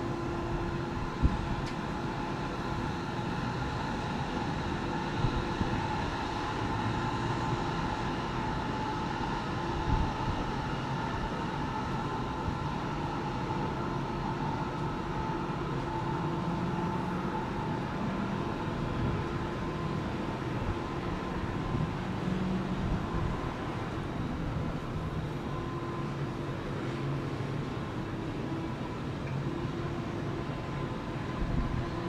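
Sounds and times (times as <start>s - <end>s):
low urban rumble: 0.0s - 32.0s
mechanical hum: 0.0s - 32.0s.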